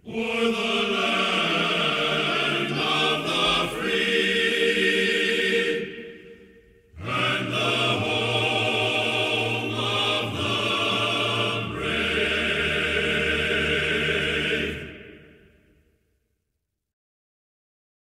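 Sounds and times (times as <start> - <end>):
choir-like background music: 0.0 - 15.9.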